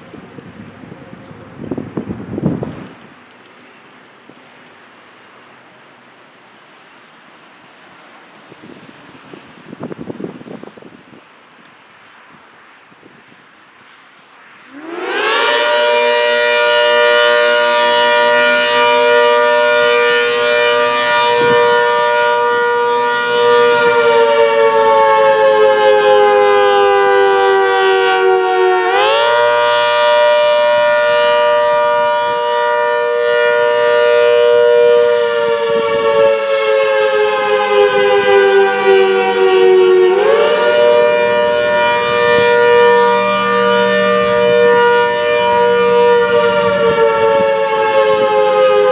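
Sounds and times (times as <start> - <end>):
rising and falling warning siren: 0.0 - 48.9.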